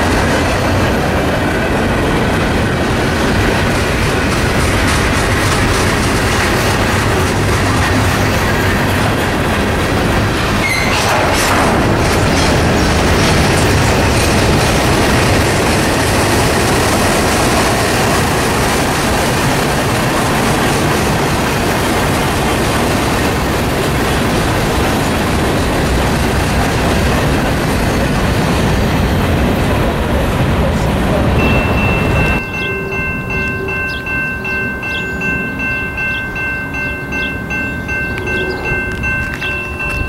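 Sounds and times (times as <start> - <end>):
freight train wheels on rail: 0.0 - 40.0.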